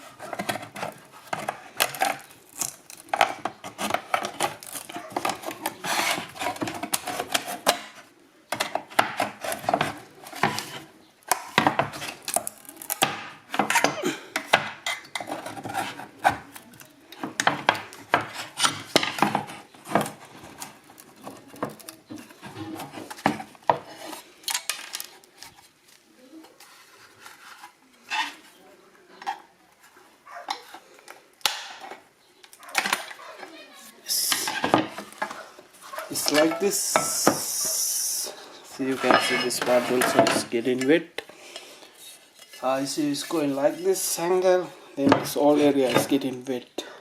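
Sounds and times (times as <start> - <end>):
hand tools clicking and scraping: 0.0 - 25.6, 30.3 - 47.0.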